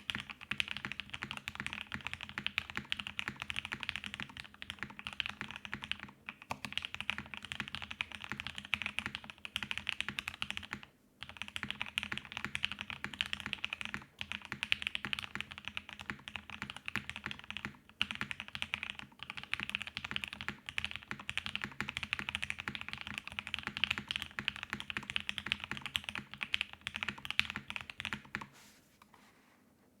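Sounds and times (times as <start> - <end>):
fast typing on mechanical keyboard: 0.0 - 28.5.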